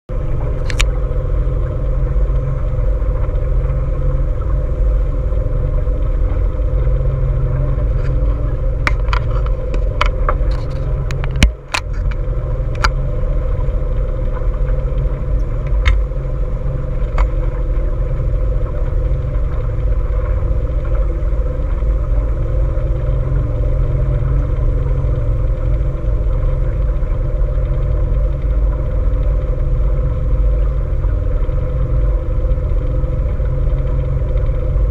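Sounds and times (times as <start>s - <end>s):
boat motor running: 0.1s - 34.9s.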